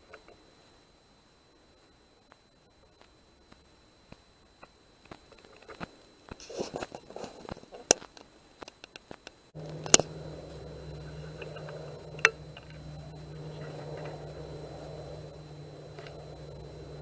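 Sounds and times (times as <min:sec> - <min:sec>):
steady low hum: 0:00.0 - 0:17.0
small clicks and rustles: 0:02.2 - 0:17.0.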